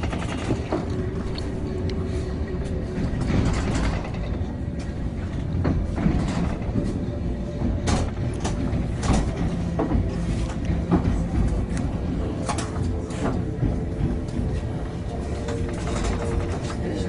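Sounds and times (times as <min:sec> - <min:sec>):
sharp knocks and rattles: 0:00.0 - 0:17.0
train rumbling inside carriage: 0:00.0 - 0:17.0.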